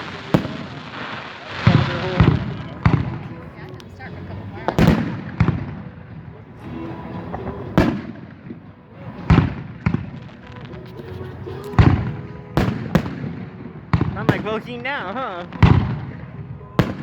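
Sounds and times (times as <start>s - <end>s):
fireworks bangs echoing: 0.0s - 17.0s.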